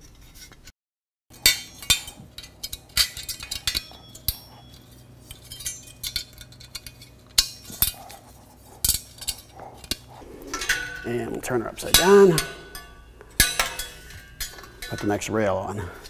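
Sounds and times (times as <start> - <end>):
sheet metal clinking and clicking: 1.3 - 15.4.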